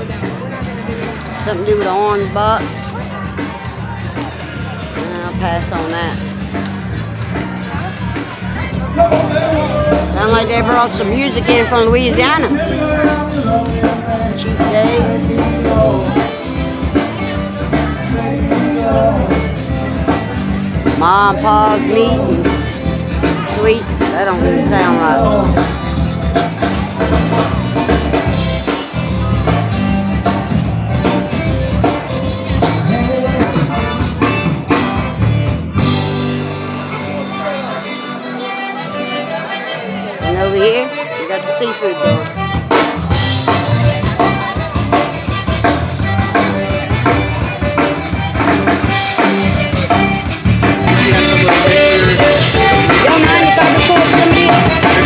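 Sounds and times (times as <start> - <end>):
steady drum beat: 0.0 - 37.4, 41.8 - 55.0
zydeco band playing live: 0.0 - 55.0.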